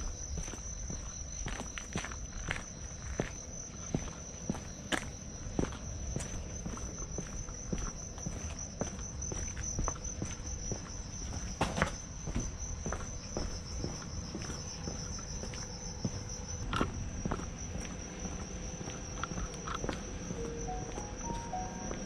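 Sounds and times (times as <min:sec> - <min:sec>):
footsteps on a trail: 0:00.0 - 0:22.0
insects trilling: 0:00.0 - 0:22.0.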